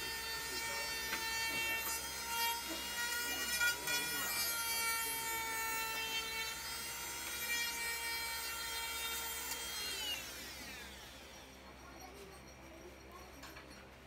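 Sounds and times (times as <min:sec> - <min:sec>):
power tool motor whining: 0:00.0 - 0:11.7.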